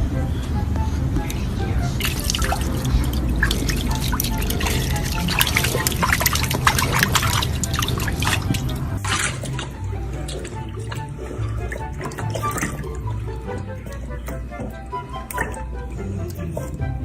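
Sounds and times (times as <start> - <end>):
water dripping and splashing: 1.2 - 17.0.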